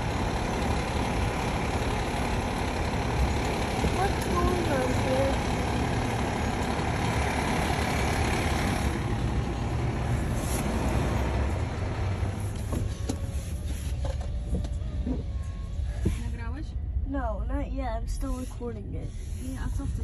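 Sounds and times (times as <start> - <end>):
fire engine diesel engine rumble: 0.0 - 20.0.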